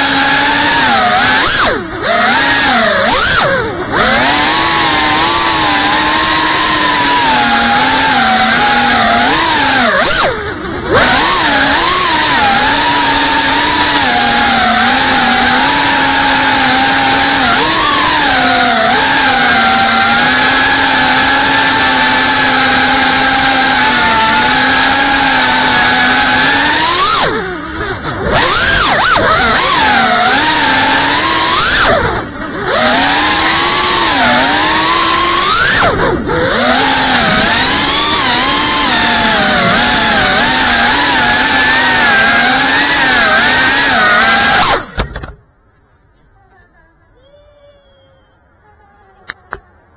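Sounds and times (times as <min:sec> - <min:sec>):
drone motors and propellers whining: 0:00.0 - 0:45.5.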